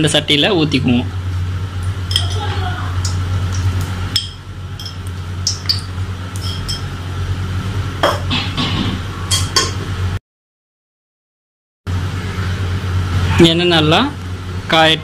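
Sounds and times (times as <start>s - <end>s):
steady low hum: 0.0s - 10.2s, 11.9s - 15.0s.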